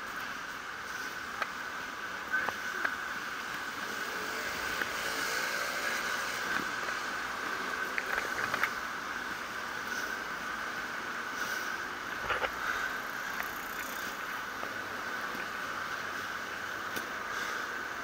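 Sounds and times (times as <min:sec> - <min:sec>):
wheels rolling and whining: 0:00.0 - 0:18.0.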